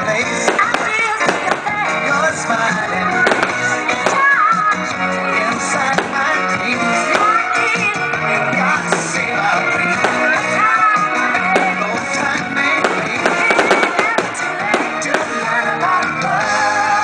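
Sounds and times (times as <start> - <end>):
fireworks cracking and popping: 0.0 - 15.8
music playing: 0.0 - 17.0.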